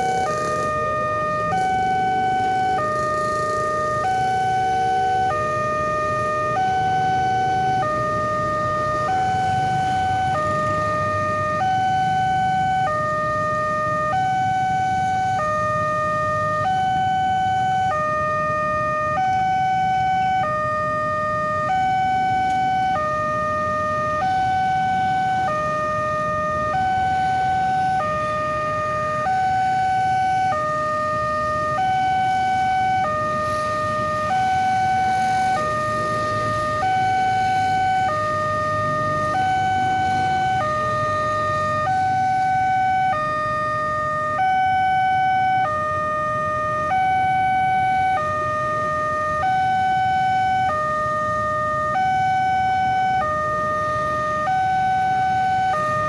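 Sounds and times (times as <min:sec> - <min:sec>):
two-tone crossing warning alarm: 0:00.0 - 0:56.0.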